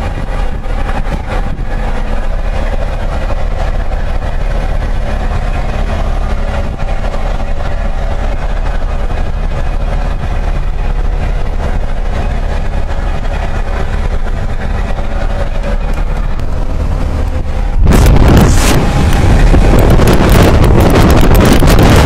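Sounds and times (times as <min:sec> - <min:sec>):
engine and tyres rumbling: 0:00.0 - 0:22.0.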